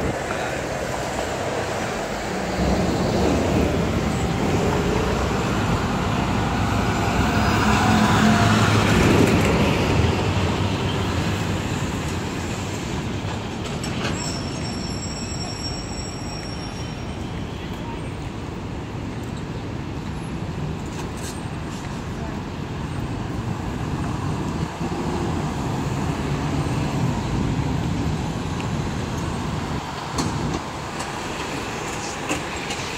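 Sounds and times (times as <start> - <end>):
passing cars and trucks: 0.0 - 32.9.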